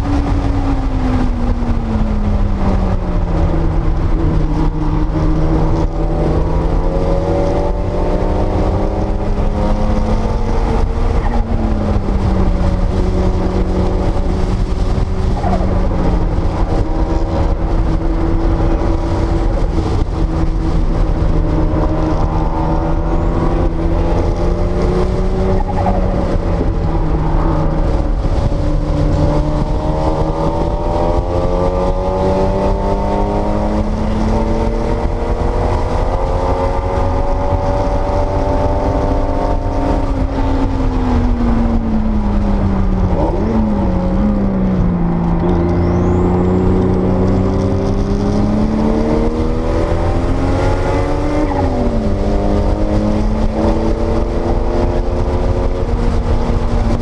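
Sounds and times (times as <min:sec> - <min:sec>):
car engine pulling hard: 0:00.0 - 0:57.0
road and wind rumble: 0:00.0 - 0:57.0.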